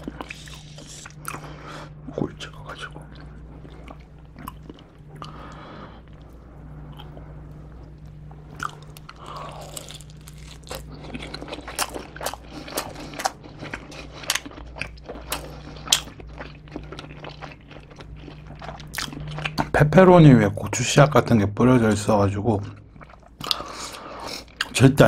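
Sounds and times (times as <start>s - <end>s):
chewing crunchy crust: 0.0s - 19.8s, 22.6s - 24.9s.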